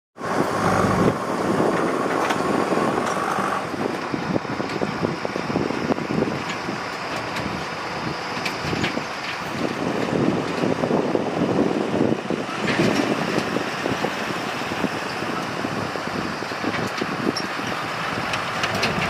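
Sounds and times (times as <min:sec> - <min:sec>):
diesel truck engine driving: 0:00.2 - 0:19.0.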